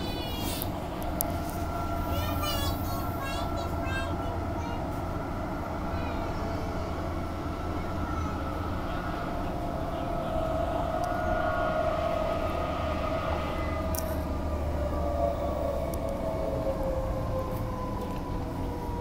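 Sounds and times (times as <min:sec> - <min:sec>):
train rumble with whine: 0:00.0 - 0:19.0.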